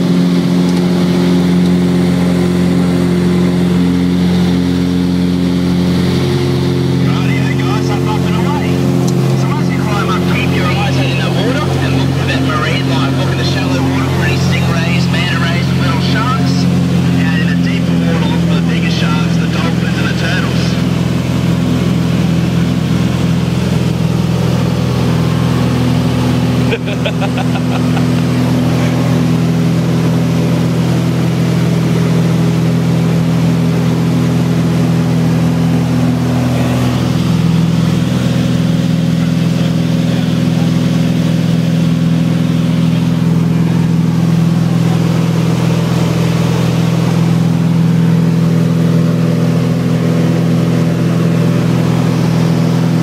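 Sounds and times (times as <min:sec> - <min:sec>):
light aircraft engine drone: 0:00.0 - 0:53.0.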